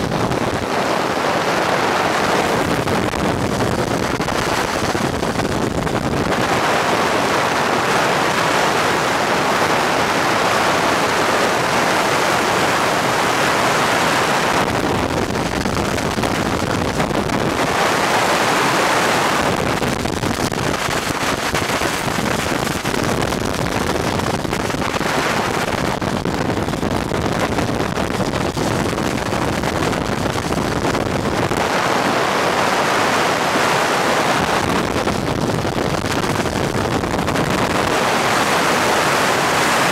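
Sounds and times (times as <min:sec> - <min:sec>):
road noise on wet highway: 0:00.0 - 0:39.9
wind on microphone: 0:00.0 - 0:39.9.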